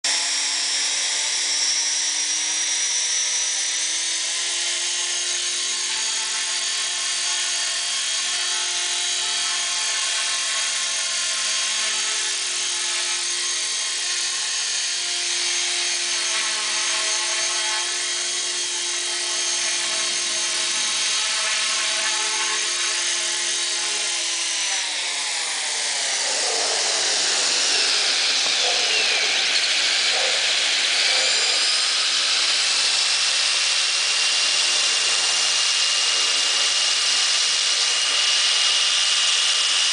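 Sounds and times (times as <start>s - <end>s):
rc helicopter motor whine: 0.0s - 39.9s
rotor blade buzz: 0.1s - 39.9s.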